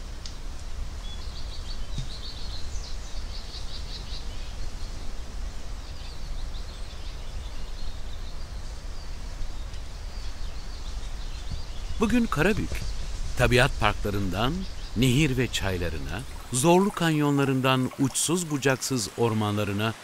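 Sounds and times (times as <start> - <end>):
low outdoor rumble: 0.0 - 17.1
small birds chirping: 0.5 - 20.0.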